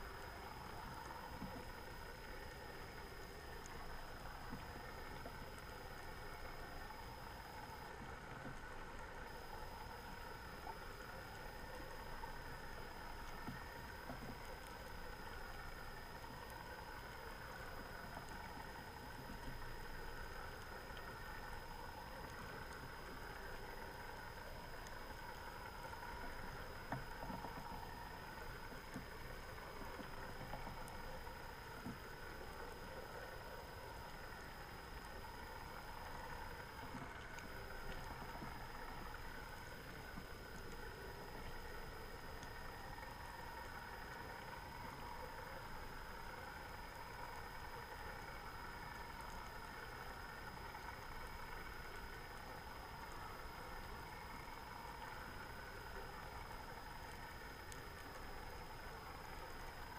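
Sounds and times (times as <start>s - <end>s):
faint high whine: 0.0s - 59.9s
faint ticks: 0.0s - 59.9s
faint underwater hum: 0.0s - 59.9s.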